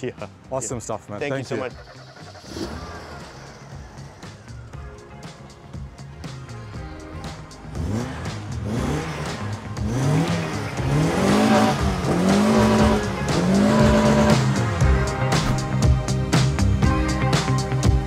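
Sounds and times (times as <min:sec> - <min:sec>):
music: 0:00.0 - 0:18.0
car engine revving: 0:01.6 - 0:16.7.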